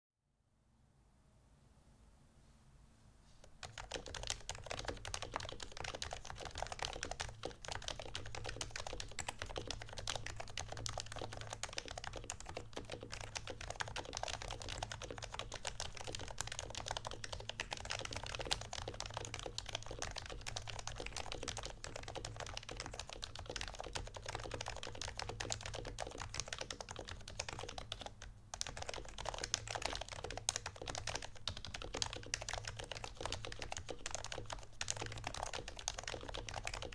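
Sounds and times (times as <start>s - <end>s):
fast typing on keyboard: 3.6s - 36.9s.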